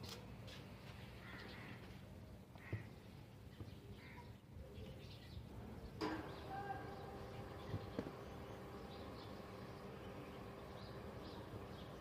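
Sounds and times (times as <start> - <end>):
bird calls: 0.9 - 12.0.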